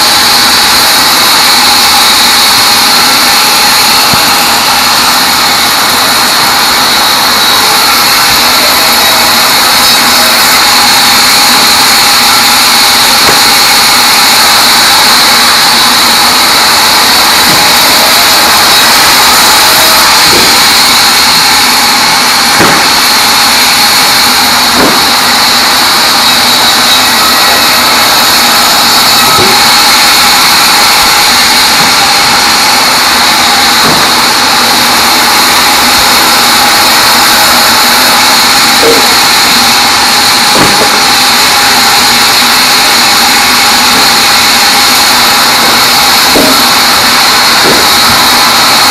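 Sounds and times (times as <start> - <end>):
band saw cutting log whine: 0.0 - 48.9.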